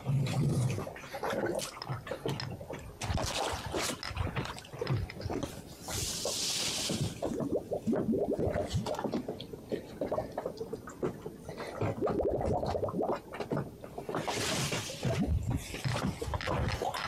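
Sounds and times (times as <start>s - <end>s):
water gurgling and splashing: 0.0s - 17.0s.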